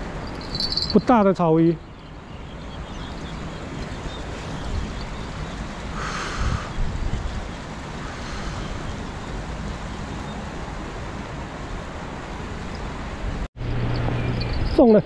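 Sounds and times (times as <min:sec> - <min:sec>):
river water: 0:00.0 - 0:15.0
wind: 0:00.0 - 0:15.0
wind rumbling on microphone: 0:01.8 - 0:15.0.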